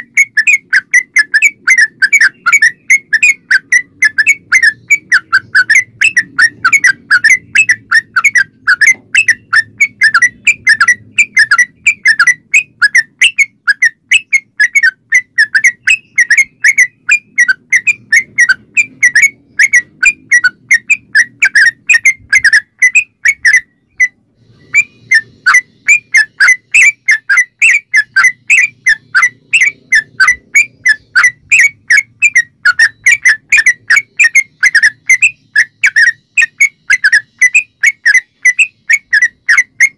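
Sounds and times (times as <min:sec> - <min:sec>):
bulbul singing chirpy notes: 0:00.0 - 0:39.9.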